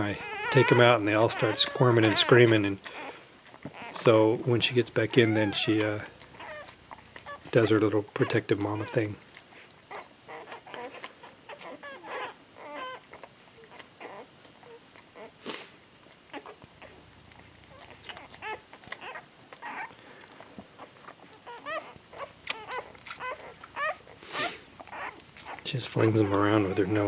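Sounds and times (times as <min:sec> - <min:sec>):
puppies squeaking and crying: 0:00.0 - 0:27.0.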